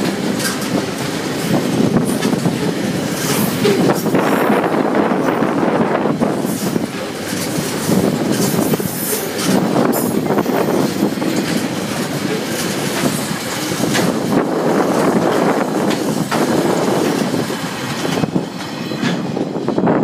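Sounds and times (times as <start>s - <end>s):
freight train wagons rolling past: 0.0s - 20.0s
train wheels clicking: 0.0s - 20.0s
wind buffeting microphone: 0.0s - 20.0s.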